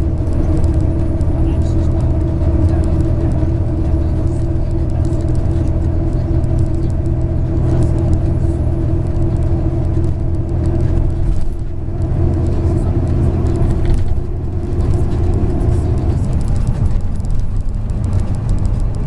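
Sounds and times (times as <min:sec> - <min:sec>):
bus diesel engine drone: 0:00.0 - 0:19.0
low road rumble: 0:00.0 - 0:19.0
faint small rattles: 0:00.1 - 0:19.0.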